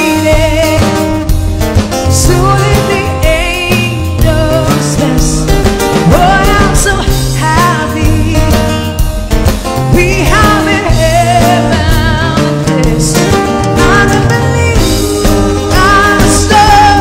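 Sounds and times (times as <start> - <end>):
woman singing with vibrato: 0.0 - 1.3, 2.1 - 9.0, 9.9 - 17.0
drum kit: 0.0 - 17.0
guitar: 0.0 - 17.0
low bass notes: 0.3 - 17.0.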